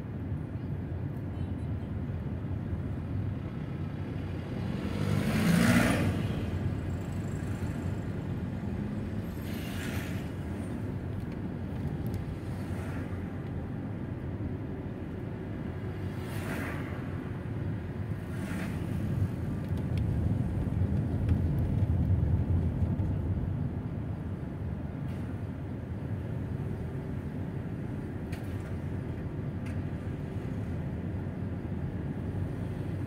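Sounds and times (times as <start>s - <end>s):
car engine and tyre rumble: 0.0s - 33.0s
rush of passing traffic: 0.0s - 33.0s.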